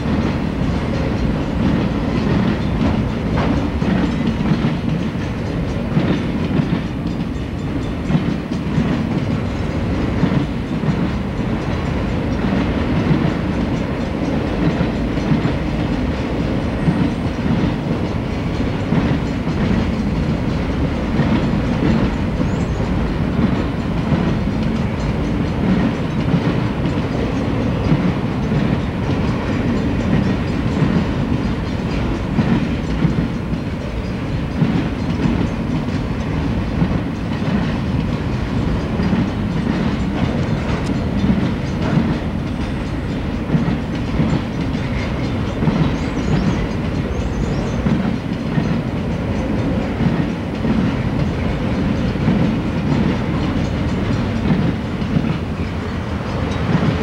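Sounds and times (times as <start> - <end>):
freight train rumbling by: 0.0 - 57.0
wheels clicking over rail joints: 0.0 - 57.0.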